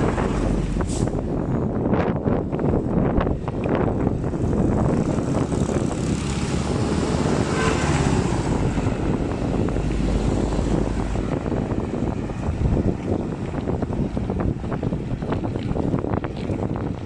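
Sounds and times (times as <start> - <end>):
wind rushing over microphone: 0.0 - 17.0
motorcycle running: 2.1 - 17.0.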